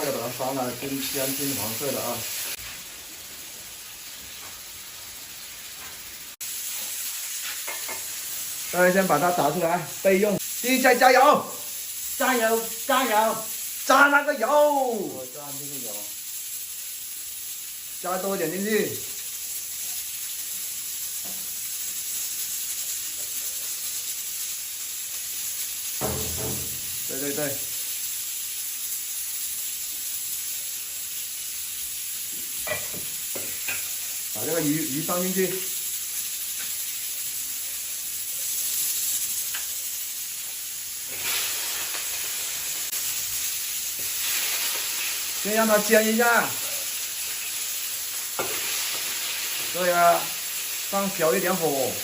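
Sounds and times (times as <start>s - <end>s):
oil sizzling in a pan: 0.0s - 52.0s.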